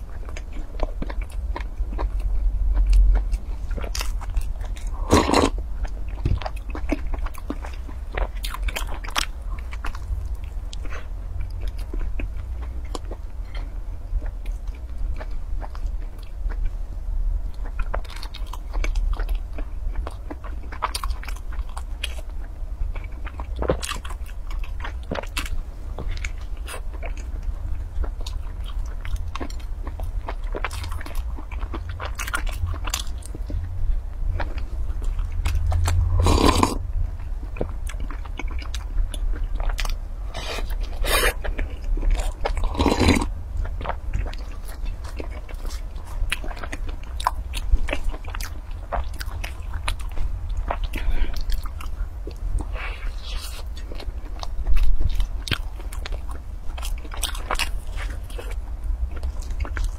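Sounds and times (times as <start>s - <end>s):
person chewing crispy bun: 0.0s - 16.8s, 17.4s - 59.9s
steady low hum: 0.0s - 59.9s.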